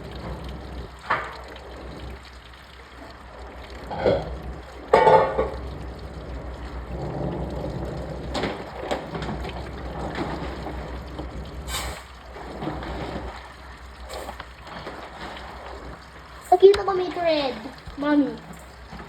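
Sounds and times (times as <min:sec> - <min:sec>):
washing machine running: 0:00.0 - 0:19.0
water sloshing in drum: 0:00.0 - 0:19.0.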